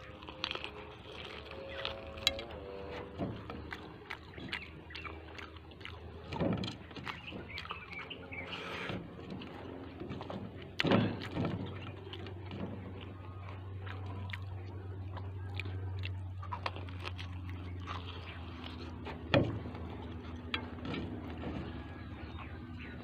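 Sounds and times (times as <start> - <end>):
person biting and chewing: 0.0 - 20.8
steady low hum: 0.0 - 23.0.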